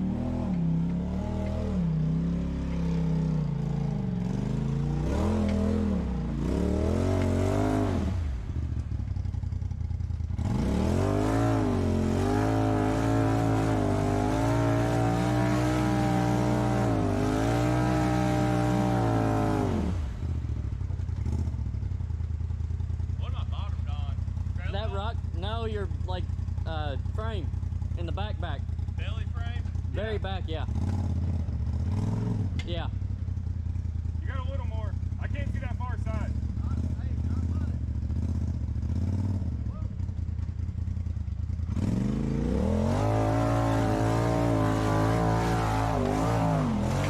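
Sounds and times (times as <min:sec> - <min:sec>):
vehicle engine revving: 0:00.0 - 0:47.0.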